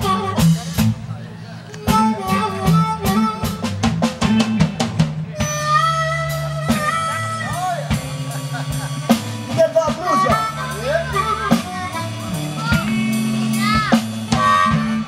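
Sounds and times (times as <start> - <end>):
amplified harmonica: 0.0 - 15.0
blues band playing: 0.0 - 15.0.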